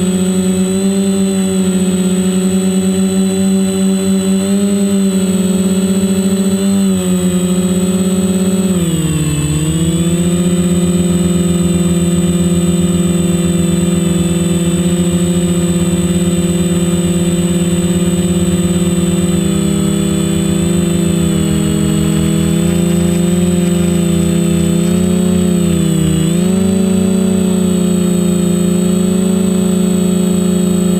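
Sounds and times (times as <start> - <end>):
drone motors whining: 0.0 - 30.9.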